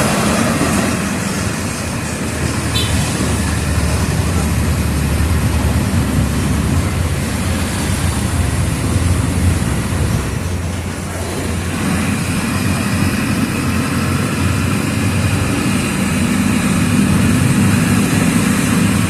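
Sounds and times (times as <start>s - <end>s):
bus diesel engine rumbling: 0.0s - 19.0s
road and body noise: 0.0s - 19.0s.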